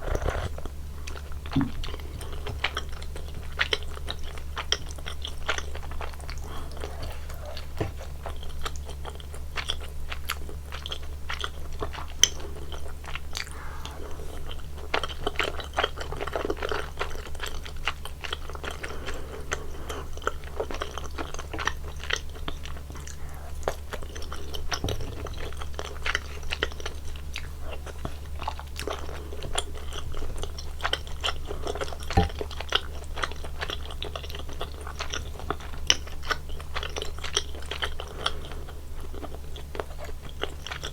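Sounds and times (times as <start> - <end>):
chewing with mouth clicks: 0.0 - 40.9
steady low hum: 0.0 - 40.9.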